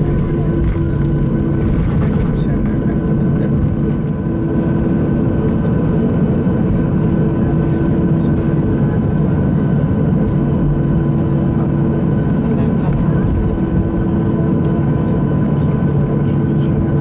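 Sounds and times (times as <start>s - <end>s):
airplane cabin engine noise: 0.0s - 17.0s
constant hums: 0.0s - 17.0s.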